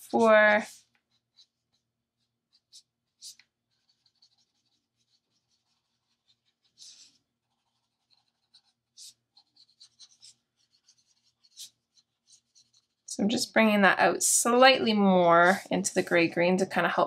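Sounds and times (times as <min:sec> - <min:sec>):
marker scratching on paper: 0:00.0 - 0:17.0.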